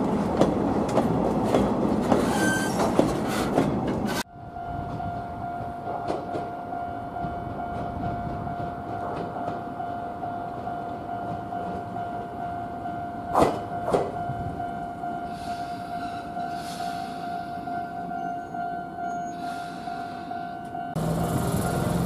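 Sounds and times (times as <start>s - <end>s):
electric train arriving: 0.0s - 22.0s.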